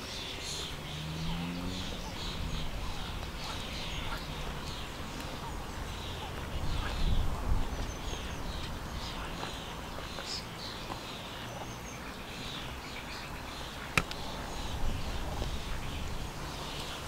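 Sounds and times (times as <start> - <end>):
cygnets peeping: 0.0 - 17.0.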